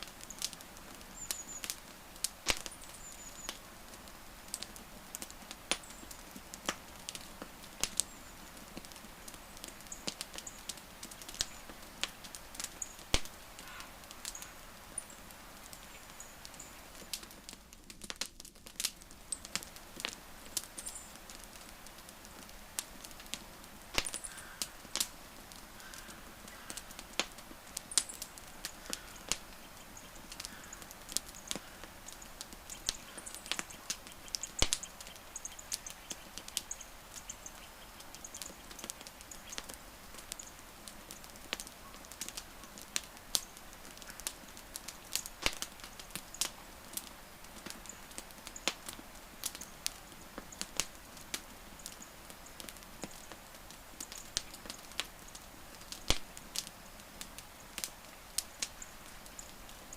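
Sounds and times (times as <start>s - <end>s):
fire hissing: 0.0s - 59.9s
wood fire popping and snapping: 0.0s - 59.9s.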